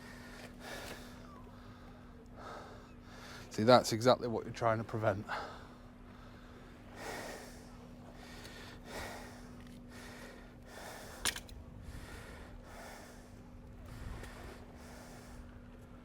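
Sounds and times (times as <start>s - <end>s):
man breathing: 0.0s - 3.5s, 5.3s - 15.6s.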